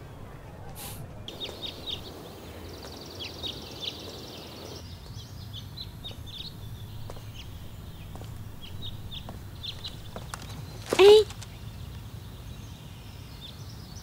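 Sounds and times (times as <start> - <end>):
low steady background rumble: 0.0 - 12.7
small birds chirping: 0.0 - 14.0.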